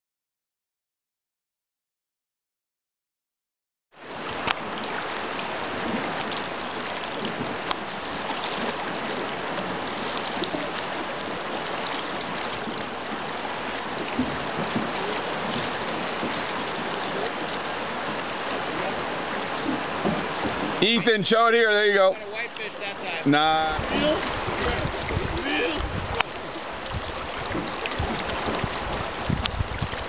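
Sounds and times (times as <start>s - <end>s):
river current rushing: 4.0s - 30.0s.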